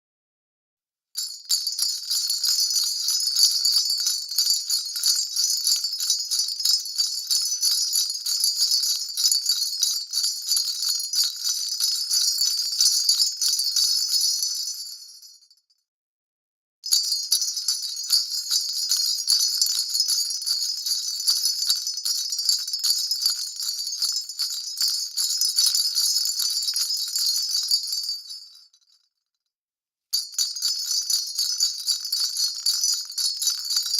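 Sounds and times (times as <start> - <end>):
sleigh bells jingling: 1.2 - 15.0, 16.9 - 28.6, 30.1 - 33.9.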